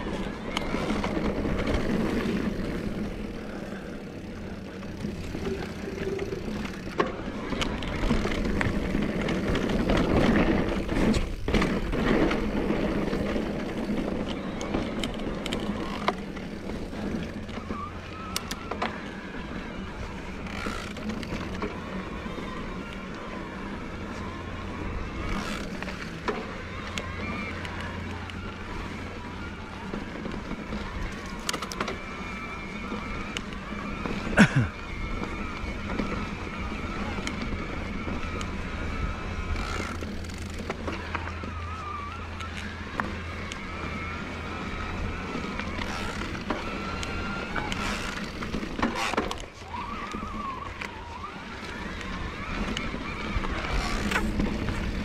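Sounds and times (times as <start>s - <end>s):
bike clattering and clicking: 0.0s - 55.0s
tyres rolling over dirt and rocks: 0.0s - 55.0s.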